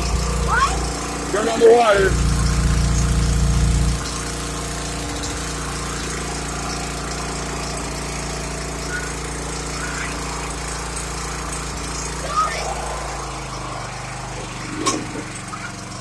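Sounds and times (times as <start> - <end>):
pressure washer engine running: 0.0 - 16.0.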